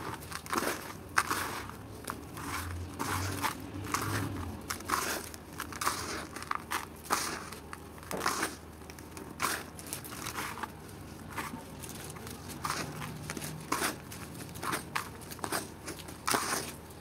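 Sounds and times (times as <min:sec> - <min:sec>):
crumbs rustling: 0:00.0 - 0:17.0.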